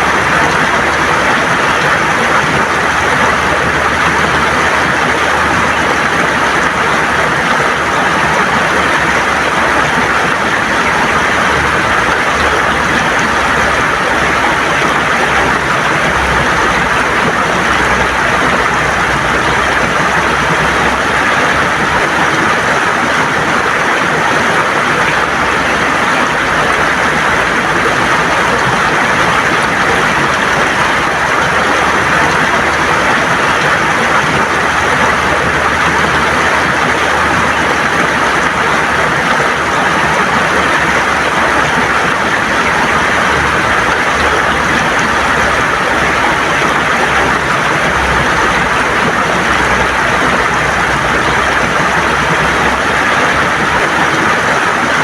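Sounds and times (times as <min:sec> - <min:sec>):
river water rushing over stones: 0:00.0 - 0:55.0.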